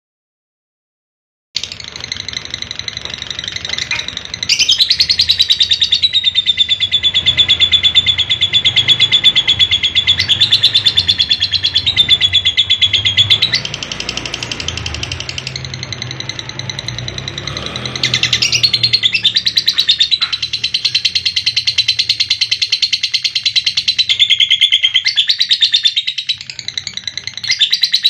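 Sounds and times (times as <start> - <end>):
lovebird chattering trill: 1.6 - 28.0.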